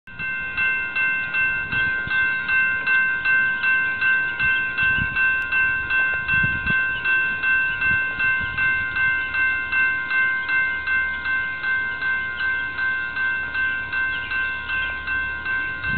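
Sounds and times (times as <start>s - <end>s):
crossing bell ringing: 0.1s - 15.9s.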